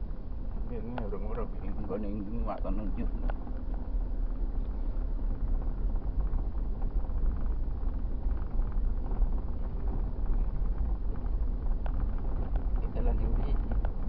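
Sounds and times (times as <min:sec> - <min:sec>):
car driving over dirt track: 0:00.0 - 0:14.0.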